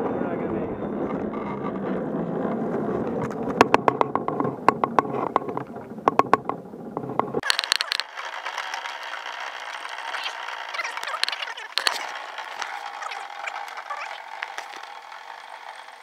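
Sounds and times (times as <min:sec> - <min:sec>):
cable car clanking on pulleys: 0:01.0 - 0:16.0.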